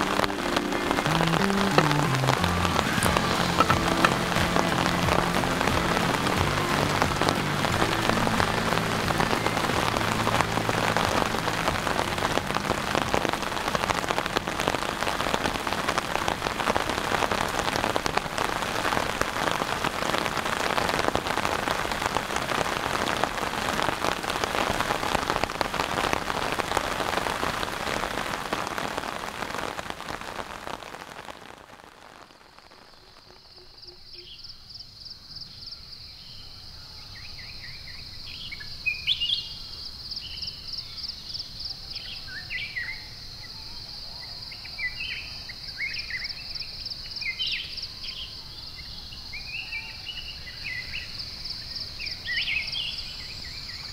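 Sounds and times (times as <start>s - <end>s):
heavy rain pattering: 0.0s - 34.5s, 44.6s - 53.9s.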